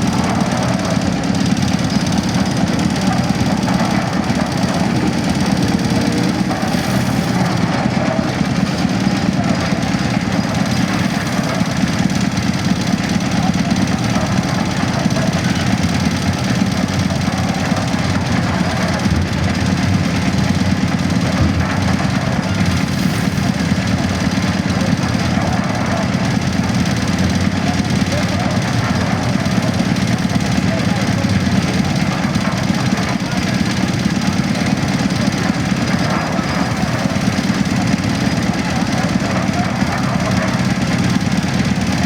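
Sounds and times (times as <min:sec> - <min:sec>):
mixer engine knocking rattle: 0:00.0 - 0:42.0.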